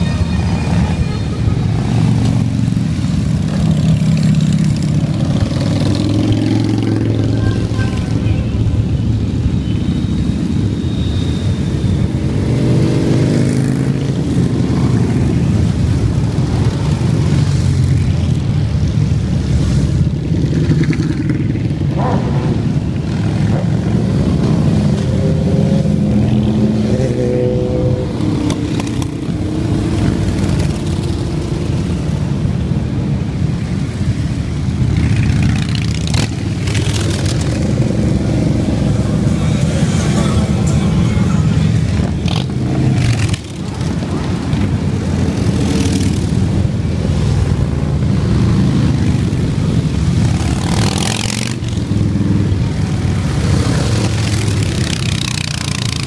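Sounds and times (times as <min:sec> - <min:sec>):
motorcycles rumbling past: 0:01.7 - 0:07.8, 0:12.2 - 0:18.8, 0:19.4 - 0:32.5, 0:33.6 - 0:56.0.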